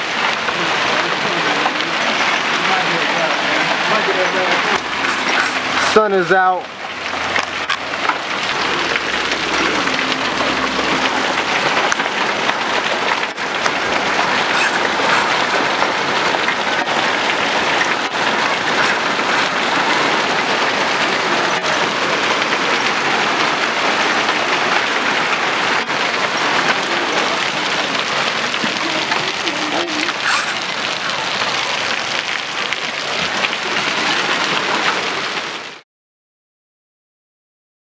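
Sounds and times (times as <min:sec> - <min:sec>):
hail and rain pattering: 0:00.0 - 0:35.8.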